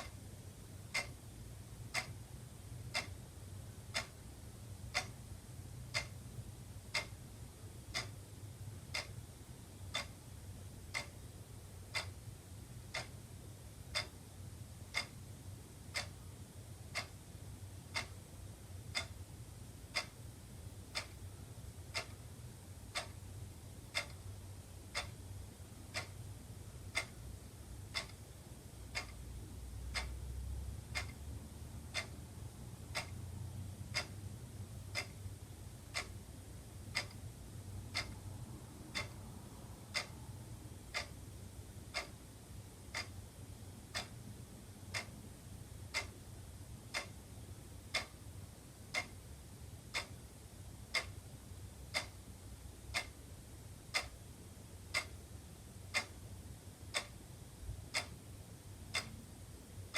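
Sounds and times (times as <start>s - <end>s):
faint low hum: 0.0s - 59.9s
wall clock ticking: 0.0s - 59.9s.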